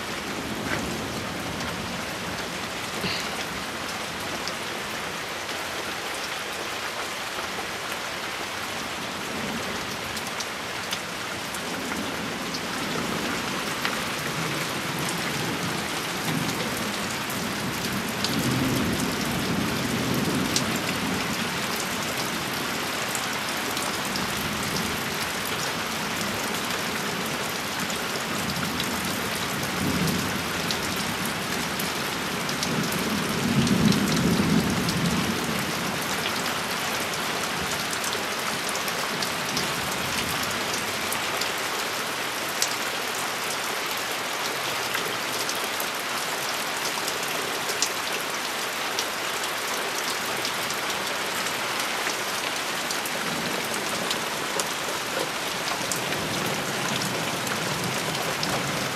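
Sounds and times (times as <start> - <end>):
rain on leaves and ground: 0.0 - 58.9.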